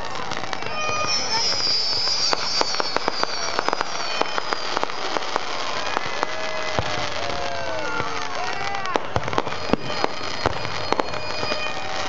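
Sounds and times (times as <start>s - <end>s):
fireworks crackling: 0.0s - 12.0s
whistling fireworks: 0.0s - 12.0s.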